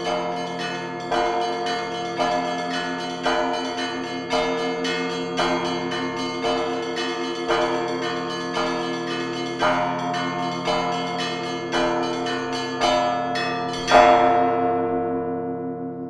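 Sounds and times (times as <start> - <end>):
church bells ringing a peal: 0.0 - 16.0.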